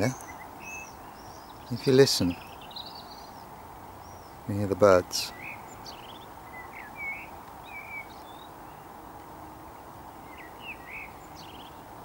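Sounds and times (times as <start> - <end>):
small birds chirping: 0.0 - 12.0
steady background noise: 0.0 - 12.0.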